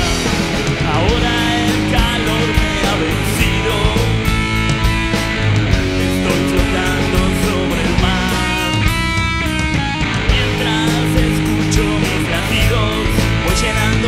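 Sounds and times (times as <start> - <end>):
drum beat: 0.0 - 14.0
electric guitar: 0.0 - 14.0.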